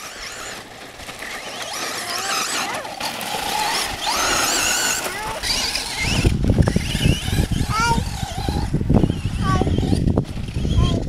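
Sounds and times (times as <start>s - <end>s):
electric toy truck motor whining: 0.0s - 11.0s.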